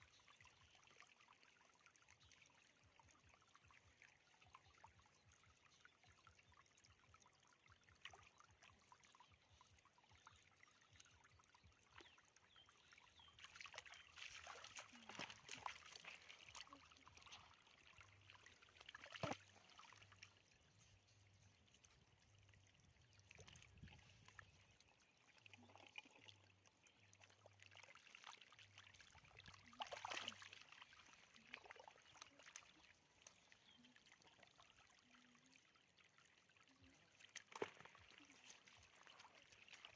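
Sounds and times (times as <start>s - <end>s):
shallow water splashing and trickling: 0.0s - 39.9s.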